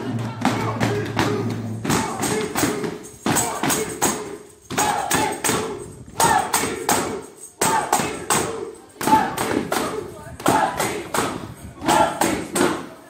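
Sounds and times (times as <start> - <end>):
music with jingling percussion: 0.0 - 12.2.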